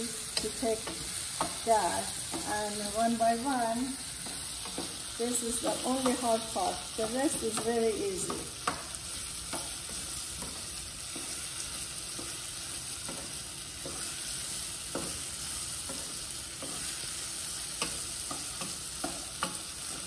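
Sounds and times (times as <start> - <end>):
beans sizzling in oil: 0.0 - 20.0.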